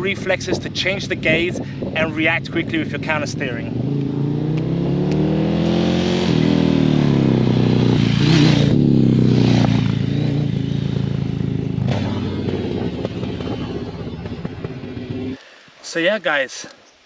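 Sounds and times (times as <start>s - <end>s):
motorcycle engine accelerating: 0.0s - 15.4s.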